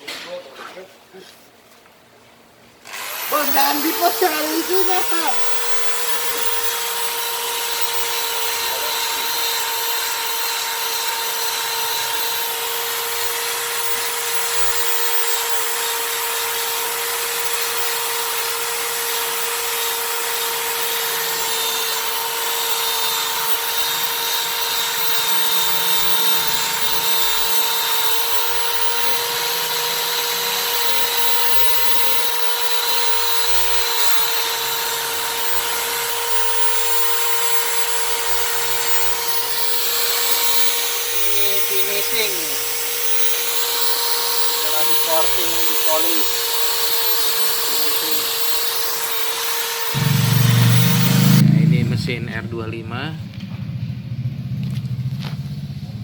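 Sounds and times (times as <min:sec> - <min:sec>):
die grinder whining: 0:02.8 - 0:52.8.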